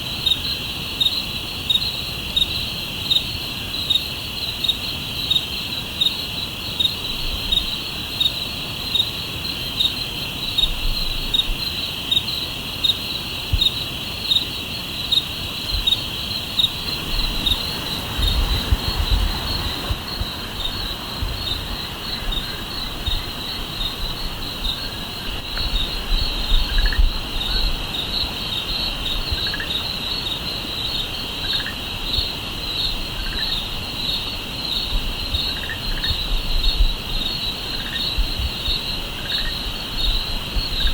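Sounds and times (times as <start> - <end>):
crickets trilling: 0.0 - 40.9
soft low insect calls: 0.0 - 40.9.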